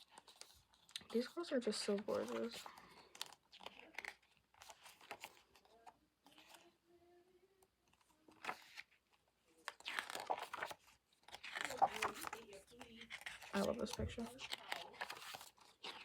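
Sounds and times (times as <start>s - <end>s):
pages rustling: 0.0s - 6.8s, 7.8s - 16.0s.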